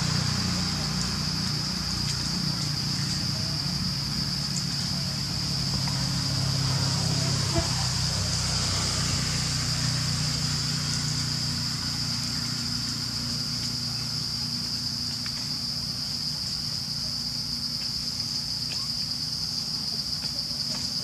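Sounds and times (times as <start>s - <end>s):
low motor hum: 0.0s - 17.0s
insects droning: 0.0s - 21.0s.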